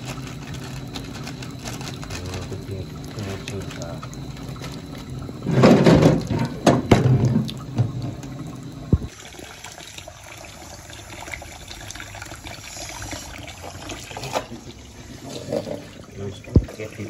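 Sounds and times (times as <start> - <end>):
tap water running into jug: 0.0 - 17.0.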